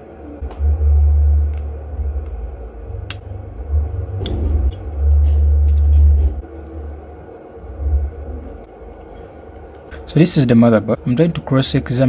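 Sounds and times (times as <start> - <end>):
deep rumble: 0.3 - 10.1.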